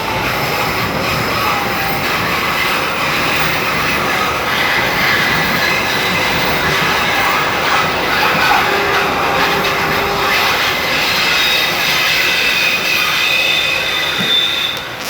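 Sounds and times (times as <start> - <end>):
high wheel squeal: 0.0 - 15.0
train wheels rushing on rail: 0.0 - 15.0.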